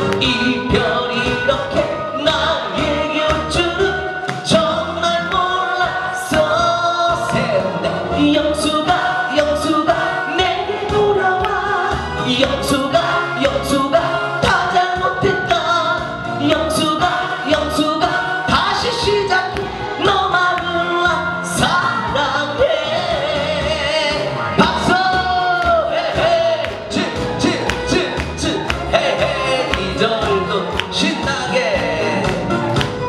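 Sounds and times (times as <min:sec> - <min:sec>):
man singing into microphone: 0:00.0 - 0:32.8
backing track with steady beat: 0:00.0 - 0:33.0.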